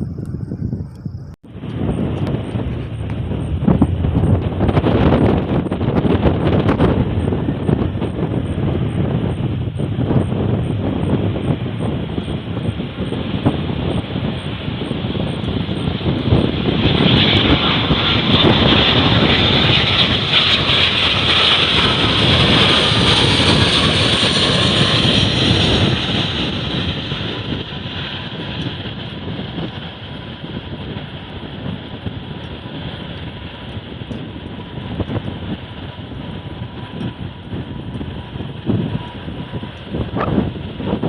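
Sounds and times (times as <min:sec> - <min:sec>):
airliner engines passing: 0:00.0 - 0:41.0.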